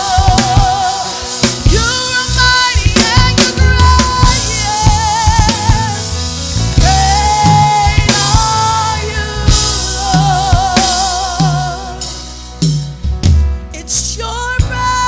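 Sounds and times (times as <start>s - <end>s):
person singing with vibrato: 0.0s - 12.6s, 13.8s - 15.0s
drum kit: 0.0s - 15.0s
worship band playing: 0.0s - 15.0s.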